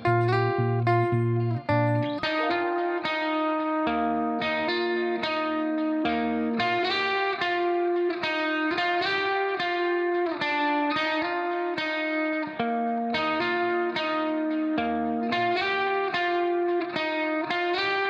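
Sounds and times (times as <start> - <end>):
plucked-string melody: 0.0 - 18.0.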